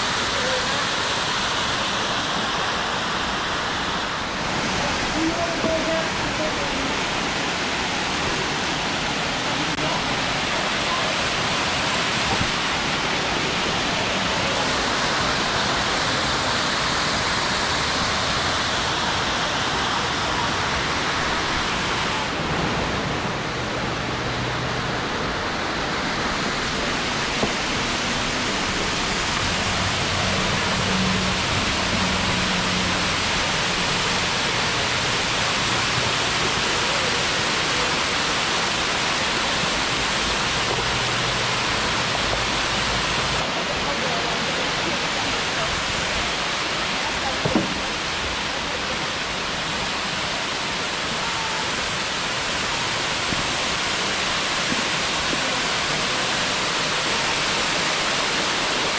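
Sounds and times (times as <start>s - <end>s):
waterfall splashing over rocks: 0.0s - 58.9s.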